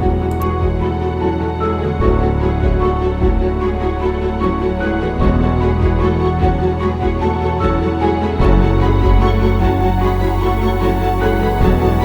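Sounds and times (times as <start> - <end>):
background music with low bass: 0.0 - 12.0.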